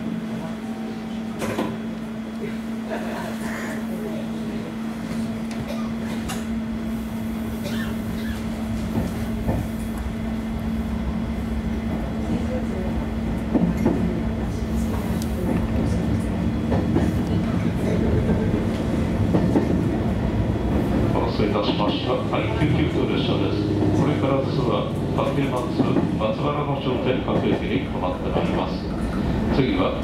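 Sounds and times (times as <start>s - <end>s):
railcar motor hum: 0.0s - 30.0s
train running rumble: 0.0s - 30.0s.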